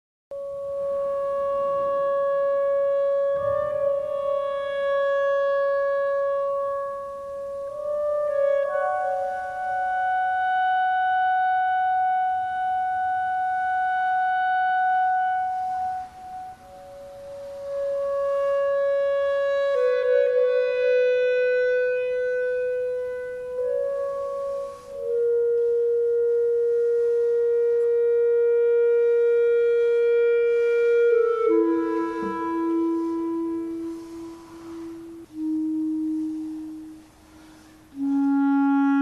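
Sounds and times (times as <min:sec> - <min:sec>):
clarinet playing long notes: 0:00.3 - 0:39.0.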